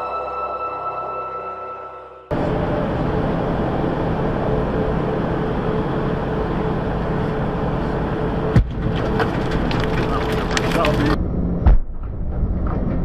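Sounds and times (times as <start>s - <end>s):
truck engine and road noise: 2.3s - 13.0s.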